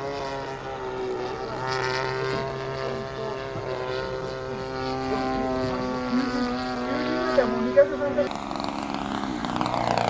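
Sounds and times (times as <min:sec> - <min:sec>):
model aircraft engine: 0:00.0 - 0:10.0.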